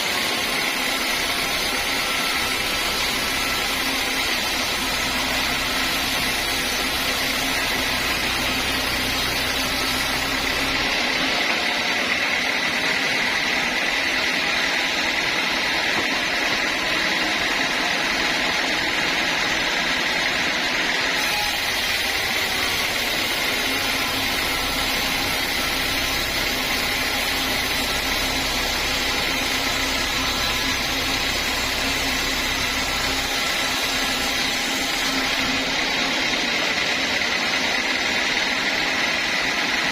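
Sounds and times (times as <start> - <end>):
high mechanical whine: 0.0 - 39.9
sawmill machinery running: 0.0 - 39.9.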